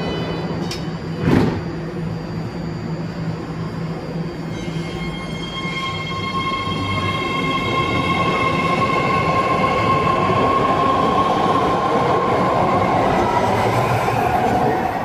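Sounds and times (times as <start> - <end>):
train high-pitched whine: 0.0 - 15.0.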